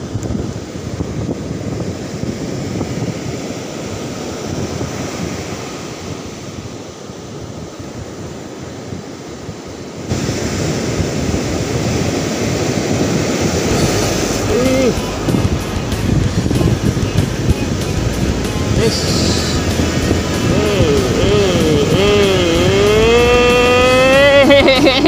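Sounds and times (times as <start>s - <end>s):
surf breaking on beach: 0.0s - 25.0s
wind on microphone: 0.0s - 25.0s.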